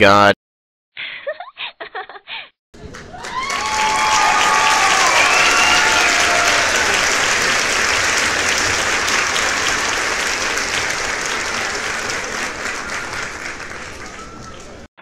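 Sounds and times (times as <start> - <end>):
crowd applauding: 2.8 - 14.9.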